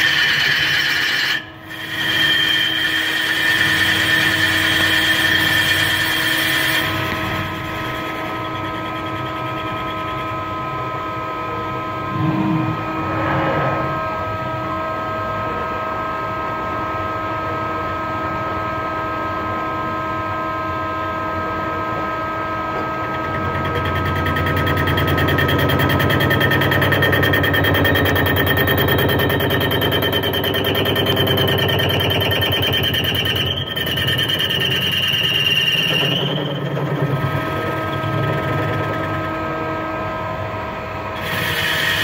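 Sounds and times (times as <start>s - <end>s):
lathe machine hum with whining: 0.0s - 42.0s.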